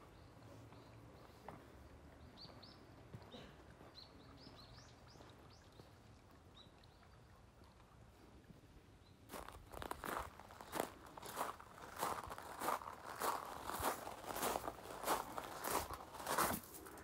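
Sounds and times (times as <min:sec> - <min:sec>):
birds chirping faintly: 0:00.0 - 0:07.8, 0:08.9 - 0:17.0.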